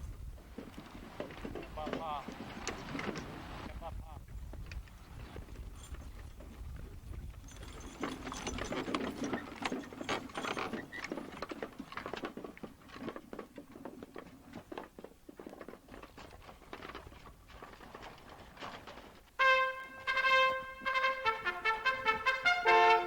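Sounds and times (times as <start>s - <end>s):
harness jingling: 0.0s - 3.7s, 4.3s - 23.0s
clatter of many hooves: 0.0s - 23.0s.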